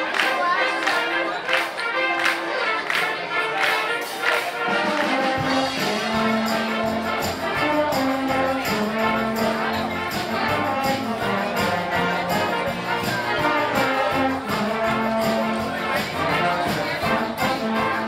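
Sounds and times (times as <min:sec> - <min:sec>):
brass band playing: 0:00.0 - 0:18.0.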